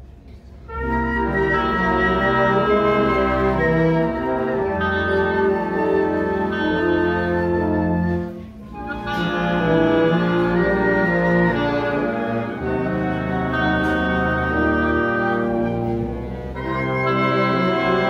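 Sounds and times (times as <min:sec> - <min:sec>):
wind band playing a march: 0:00.7 - 0:18.0.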